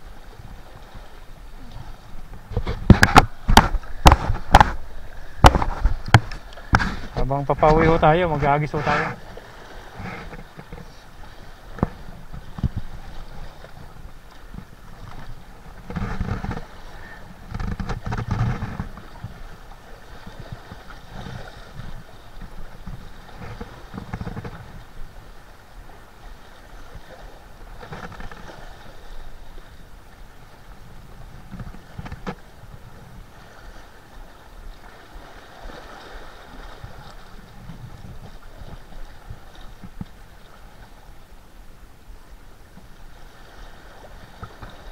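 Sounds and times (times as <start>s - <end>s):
sea water washing against rocks: 0.0s - 41.3s, 42.5s - 44.9s
wind rumbling on microphone: 0.0s - 44.9s.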